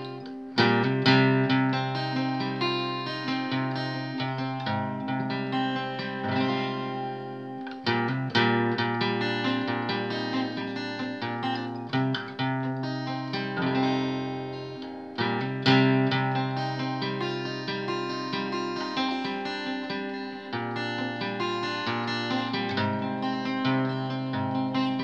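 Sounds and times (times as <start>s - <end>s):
acoustic guitar picking chords: 0.0s - 25.0s.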